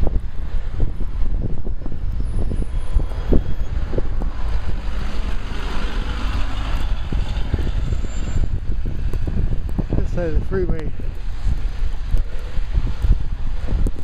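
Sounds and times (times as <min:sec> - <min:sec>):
freeway traffic: 0:00.0 - 0:14.0
wind buffeting microphone: 0:00.0 - 0:14.0.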